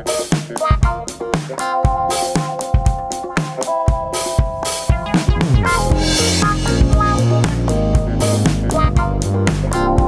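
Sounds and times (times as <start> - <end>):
upbeat music with drums: 0.0 - 10.0.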